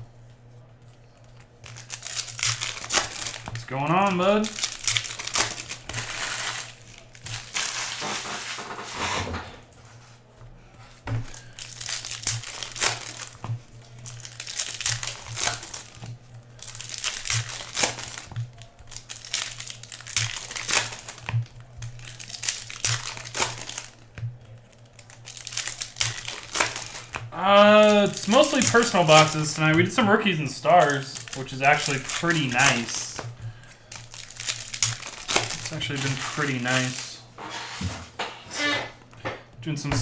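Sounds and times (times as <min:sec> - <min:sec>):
foil wrappers tearing and crinkling: 0:01.1 - 0:09.1, 0:11.2 - 0:37.2.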